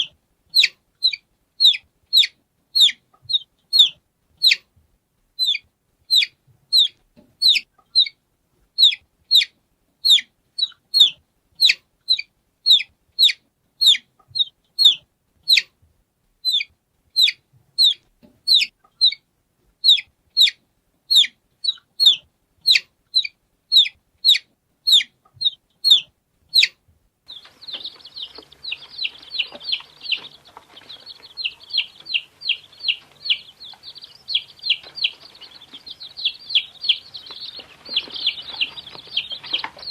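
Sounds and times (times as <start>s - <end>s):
chicks cheeping: 0.0s - 4.7s, 5.4s - 8.2s, 8.8s - 15.7s, 16.4s - 19.2s, 19.8s - 39.9s
baby chick peeping: 0.0s - 4.8s, 5.4s - 39.9s
faint background hiss: 0.0s - 39.9s.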